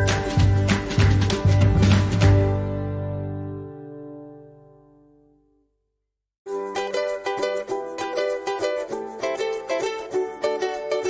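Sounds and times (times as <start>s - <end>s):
plucked string melody: 0.0s - 5.5s, 6.5s - 11.0s.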